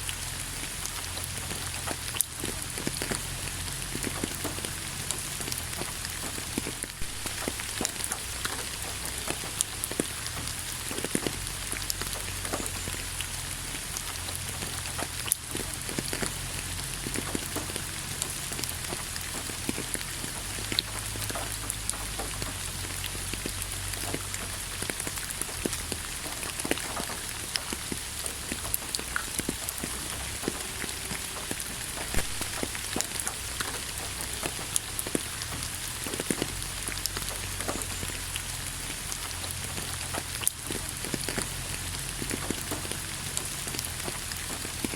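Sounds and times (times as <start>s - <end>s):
rain pattering on a surface: 0.0s - 44.9s.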